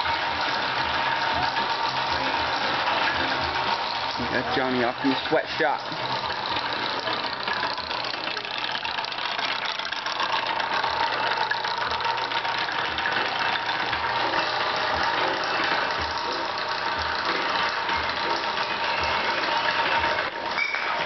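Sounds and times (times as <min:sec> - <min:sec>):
cement mixer motor humming: 0:00.0 - 0:21.0.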